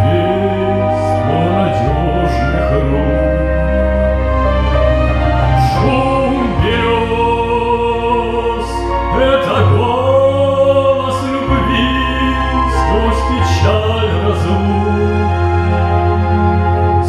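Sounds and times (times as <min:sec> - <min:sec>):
man singing a slow ballad: 0:00.0 - 0:04.3, 0:05.6 - 0:15.8
instrumental accompaniment: 0:00.0 - 0:17.0.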